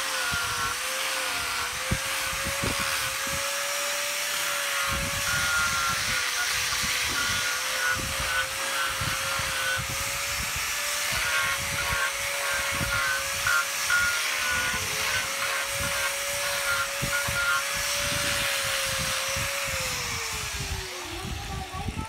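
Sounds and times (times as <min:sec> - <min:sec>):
angle grinder motor whining: 0:00.0 - 0:22.0
sanding drum hissing on wood: 0:00.0 - 0:22.0.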